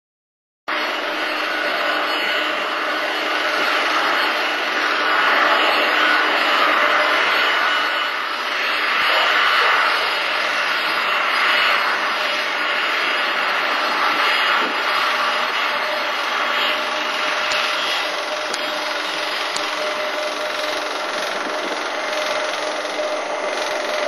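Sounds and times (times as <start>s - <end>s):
jet engines whining: 0.7s - 24.0s.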